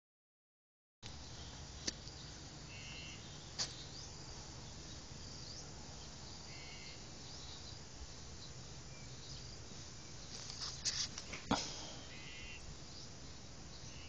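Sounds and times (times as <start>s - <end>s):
background hiss and rumble: 1.0s - 14.0s.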